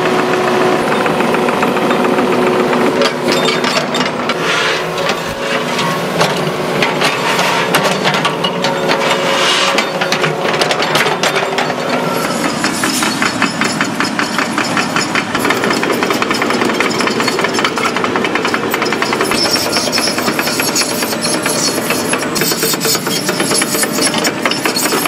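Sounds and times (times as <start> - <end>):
machinery hammering: 0.0 - 25.0.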